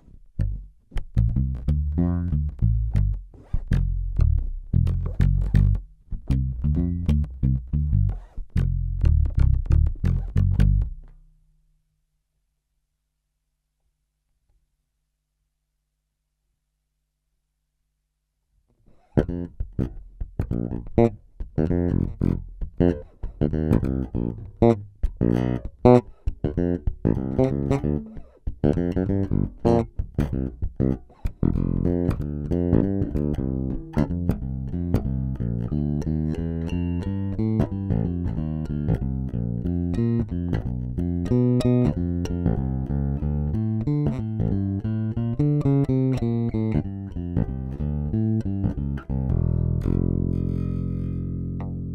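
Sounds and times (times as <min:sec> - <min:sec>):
solo electric bass playing: 0:00.0 - 0:11.4, 0:18.9 - 0:51.9.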